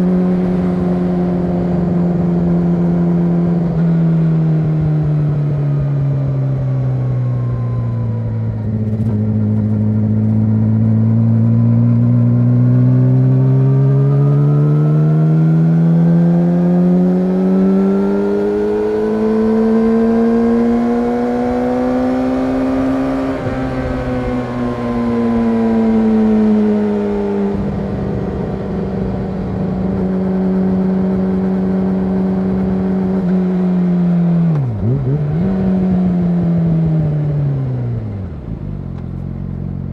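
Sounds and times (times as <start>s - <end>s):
motorcycle engine on the move: 0.0s - 39.9s.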